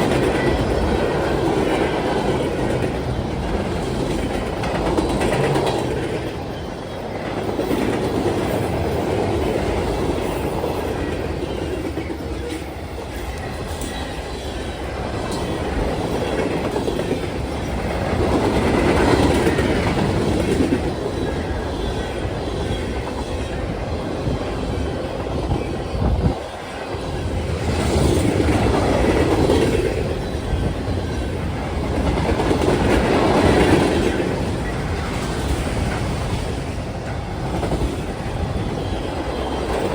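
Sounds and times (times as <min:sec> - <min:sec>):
freight train rolling on rails: 0:00.0 - 0:39.9.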